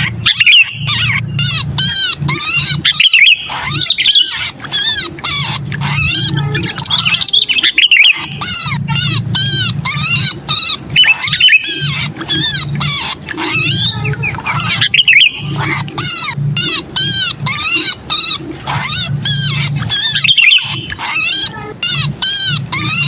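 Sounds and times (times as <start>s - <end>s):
bird harsh distress calls: 0.0s - 23.0s.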